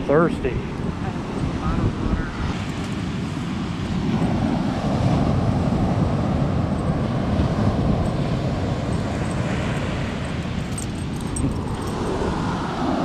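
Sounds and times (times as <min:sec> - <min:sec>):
ocean surf breaking: 0:00.0 - 0:10.6, 0:11.6 - 0:13.0
wind buffeting the microphone: 0:00.0 - 0:13.0.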